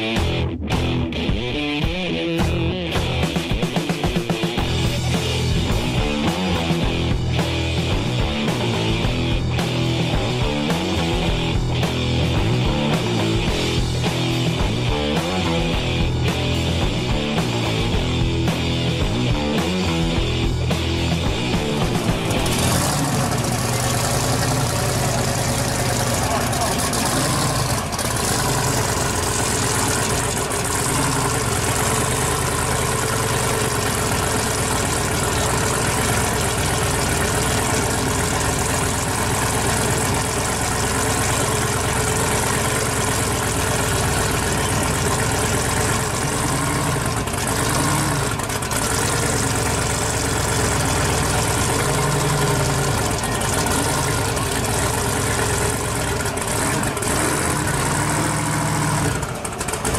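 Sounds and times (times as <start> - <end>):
drag car engine idling: 0.0 - 59.9.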